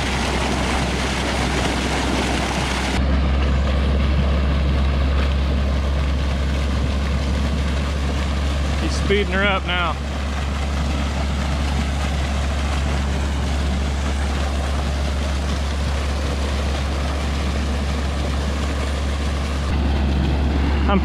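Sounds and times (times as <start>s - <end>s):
tractor engine drone: 0.0s - 21.0s
water gushing from pipe: 0.0s - 21.0s.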